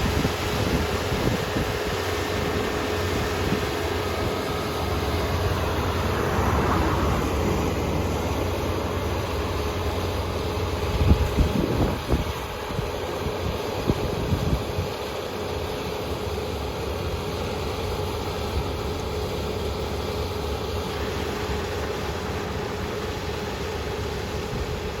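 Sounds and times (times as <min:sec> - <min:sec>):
combine harvester engine drone: 0:00.0 - 0:25.0.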